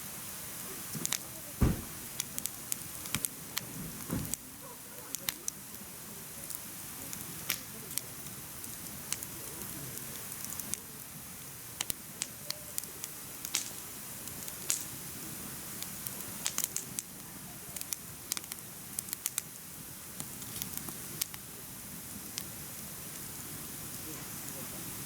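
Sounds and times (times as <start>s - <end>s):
firewood crackling and popping: 0.2s - 25.0s
low rush of flame: 0.2s - 25.0s.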